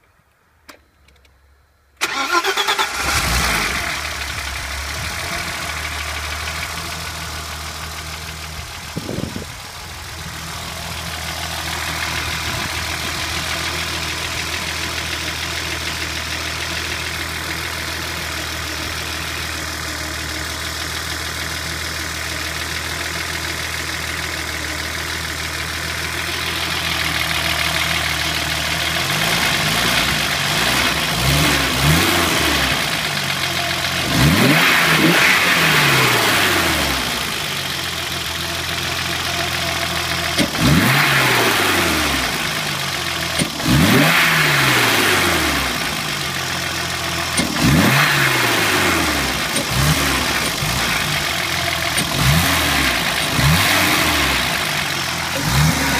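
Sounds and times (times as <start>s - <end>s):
car engine starting and idling: 0.0s - 55.9s.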